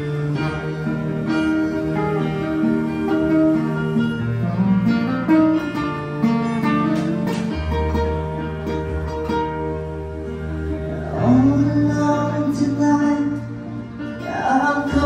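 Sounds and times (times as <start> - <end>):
acoustic guitar: 0.0 - 15.0
electric keyboard: 0.0 - 15.0.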